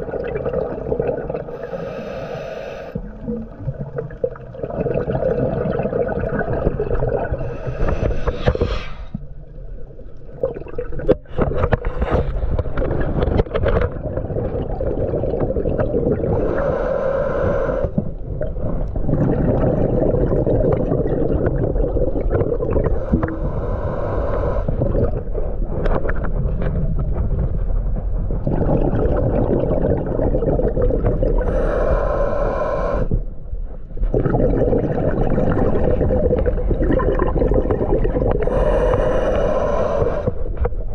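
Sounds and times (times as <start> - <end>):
exhaled bubbles hissing: 0.0 - 26.6, 28.4 - 33.4, 34.0 - 40.9
underwater low rumble: 0.0 - 40.9.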